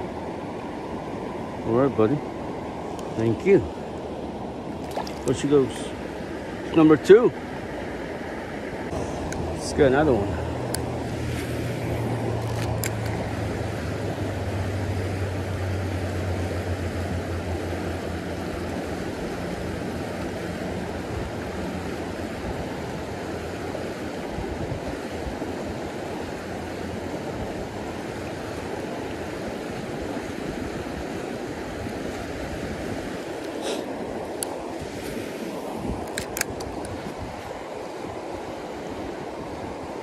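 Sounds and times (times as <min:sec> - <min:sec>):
creek rushing over rocks: 0:00.0 - 0:40.0.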